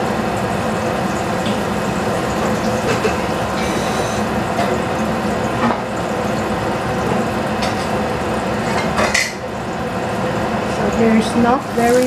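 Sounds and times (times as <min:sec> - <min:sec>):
muffled frying in a pan: 0:00.0 - 0:12.0
ventilation hood fan whirring: 0:00.0 - 0:12.0.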